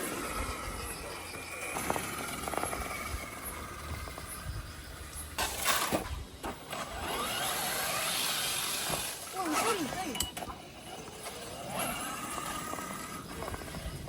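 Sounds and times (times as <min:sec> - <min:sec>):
rc car motor whirring: 0:00.0 - 0:14.0.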